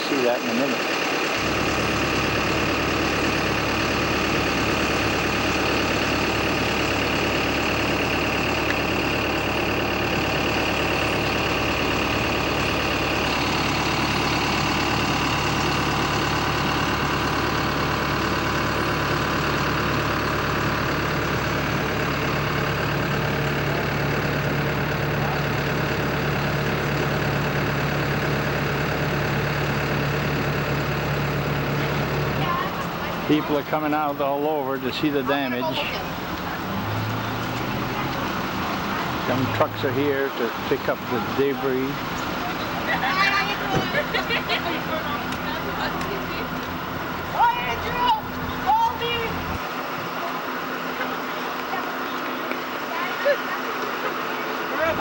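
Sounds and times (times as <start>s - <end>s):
engine humming steadily: 0.0s - 55.0s.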